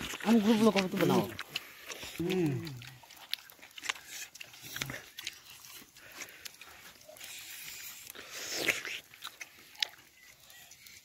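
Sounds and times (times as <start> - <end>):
loud slurp: 0.0 - 10.0
people eating with wet smacking: 0.0 - 11.0.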